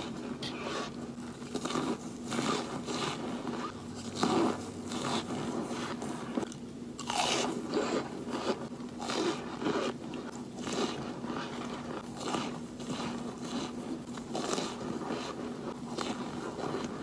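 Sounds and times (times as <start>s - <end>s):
crisp chewing crunches: 0.6s - 17.0s.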